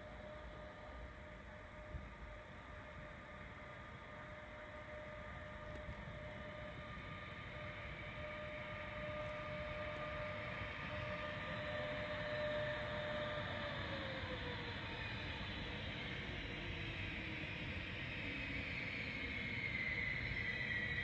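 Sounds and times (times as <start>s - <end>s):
electric train whine and rumble: 0.0s - 21.0s.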